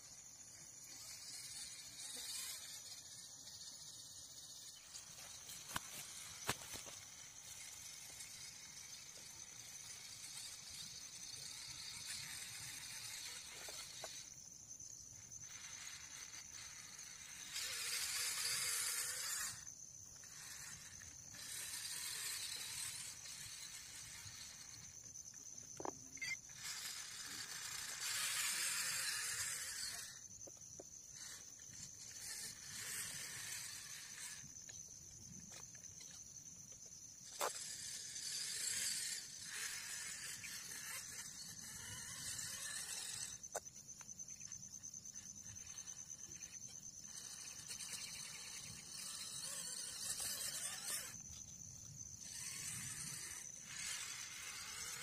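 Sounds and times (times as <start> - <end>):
toy truck motor whirring: 0.0 - 55.0.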